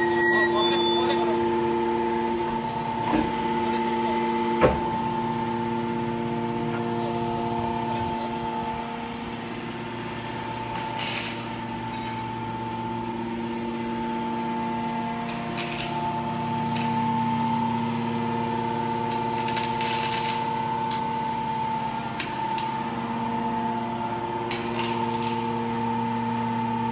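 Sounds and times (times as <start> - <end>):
hydraulic motor and pump hum: 0.0 - 26.9.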